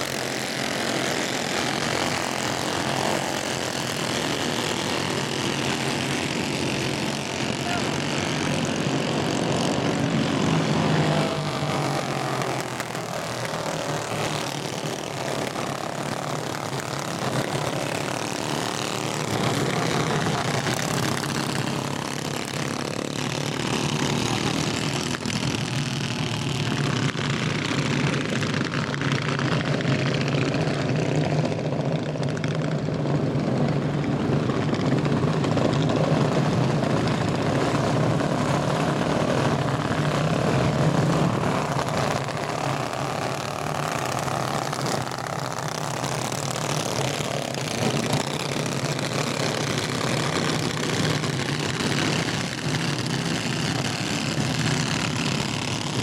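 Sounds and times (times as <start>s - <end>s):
racing kart engines buzzing: 0.0s - 56.0s.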